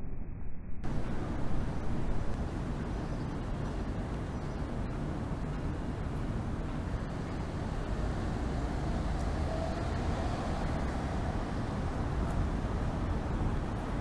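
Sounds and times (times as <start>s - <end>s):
faint hum: 0.0s - 14.0s
low outdoor rumble: 0.0s - 14.0s.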